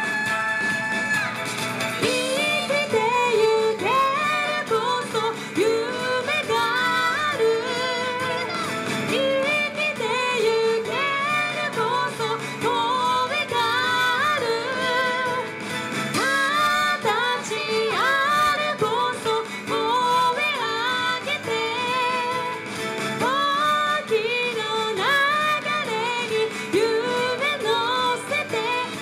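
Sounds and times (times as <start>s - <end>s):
plucked string accompaniment: 0.0s - 29.0s
women singing folk song: 0.0s - 29.0s.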